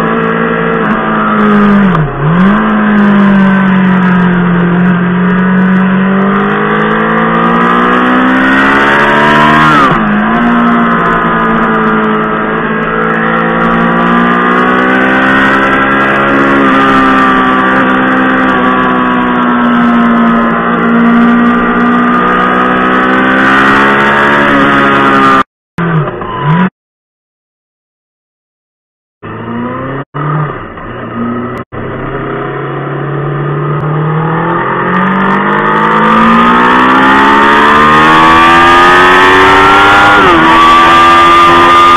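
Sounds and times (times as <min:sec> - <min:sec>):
motorcycle engine revving: 0:00.0 - 0:26.7, 0:29.2 - 0:41.9.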